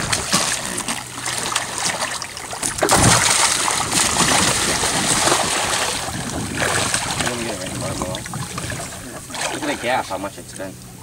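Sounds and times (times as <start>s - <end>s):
shark thrashing and splashing water: 0.0s - 10.0s.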